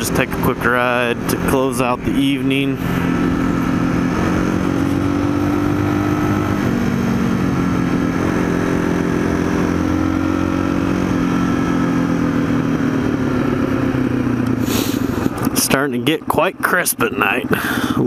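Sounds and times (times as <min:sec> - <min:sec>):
motorcycle engine on road: 0:00.0 - 0:18.0.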